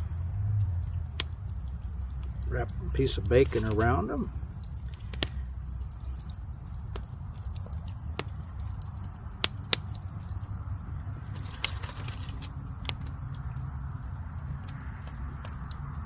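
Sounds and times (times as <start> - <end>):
campfire pops: 0.0 - 16.0
low fire rumble: 0.0 - 16.0.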